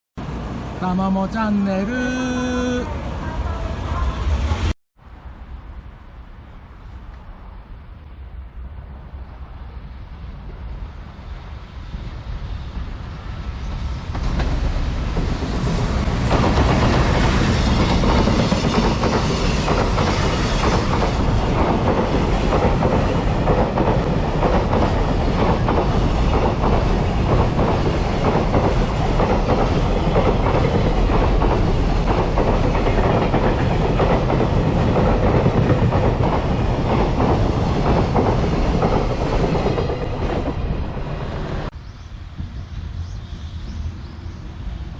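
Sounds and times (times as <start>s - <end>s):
electric locomotive passing: 0.2s - 44.9s.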